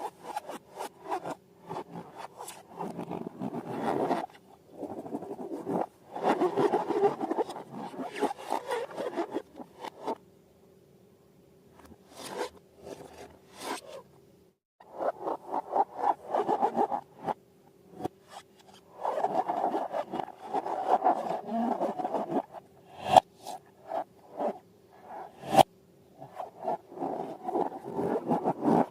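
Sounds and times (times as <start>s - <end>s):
rubbing and scraping of balloons: 0.0s - 10.2s, 11.8s - 14.1s, 14.8s - 17.4s, 18.0s - 28.9s.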